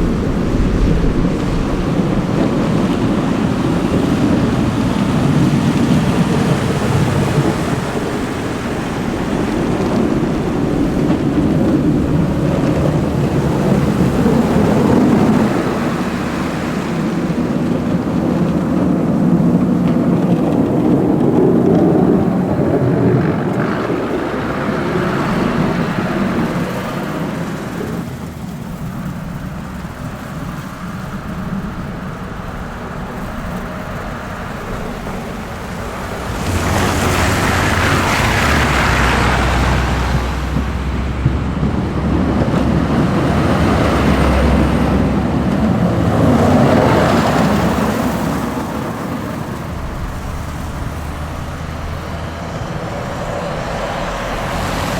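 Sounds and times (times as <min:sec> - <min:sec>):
plow blades pushing snow: 0:00.0 - 0:54.9
truck diesel engines: 0:00.0 - 0:54.9.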